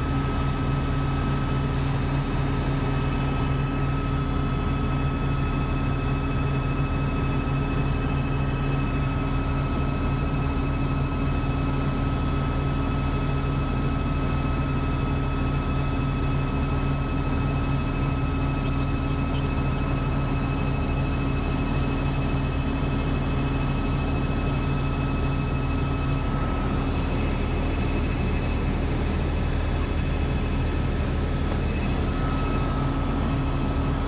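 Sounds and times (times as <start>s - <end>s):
helicopter rotor and engine drone: 0.0s - 34.0s.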